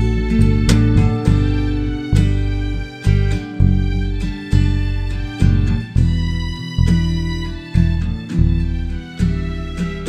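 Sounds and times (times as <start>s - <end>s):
low bass notes pulsing: 0.0s - 10.0s.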